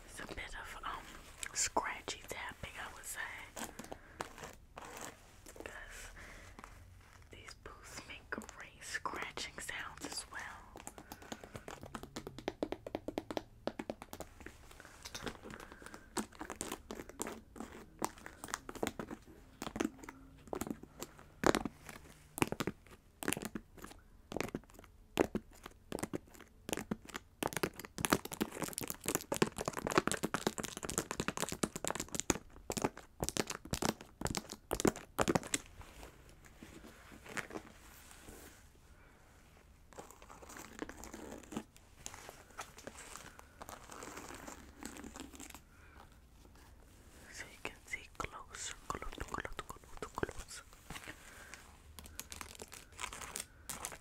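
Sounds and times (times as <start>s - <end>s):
nails tapping and scratching on fabric: 0.2s - 38.6s, 39.9s - 54.0s.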